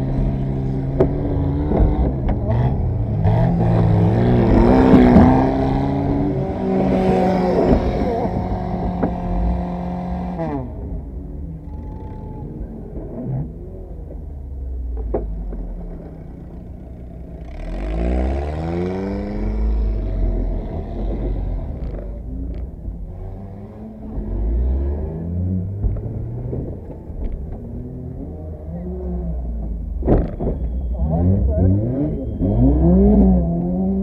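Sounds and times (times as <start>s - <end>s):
car engine revving: 0.0s - 34.0s
deep rumble: 0.0s - 34.0s.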